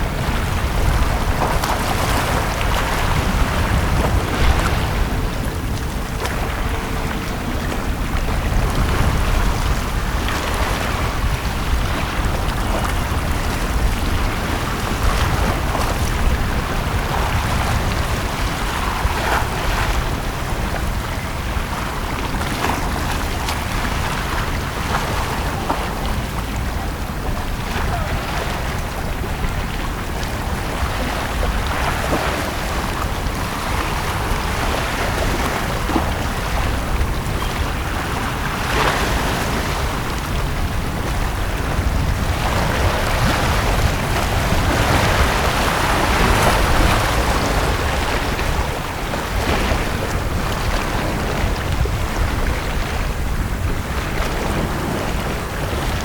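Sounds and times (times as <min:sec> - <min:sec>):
sea waves washing onto beach: 0:00.0 - 0:56.0.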